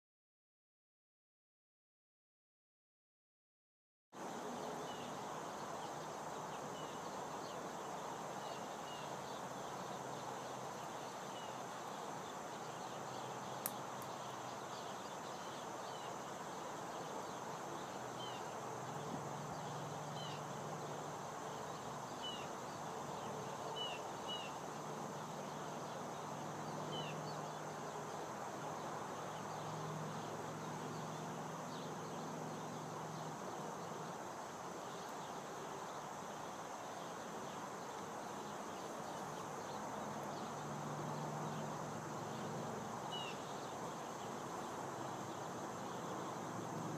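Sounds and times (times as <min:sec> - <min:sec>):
insect drone: 0:04.2 - 0:46.9.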